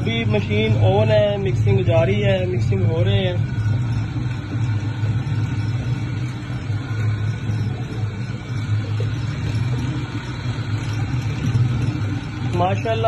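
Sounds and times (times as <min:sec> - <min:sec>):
mixing machine humming: 0:00.0 - 0:13.0.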